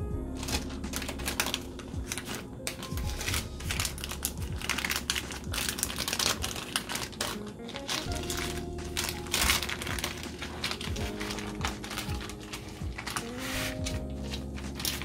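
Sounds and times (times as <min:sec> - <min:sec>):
quiet background music: 0:00.0 - 0:15.0
paper crinkling and rustling: 0:00.4 - 0:15.0.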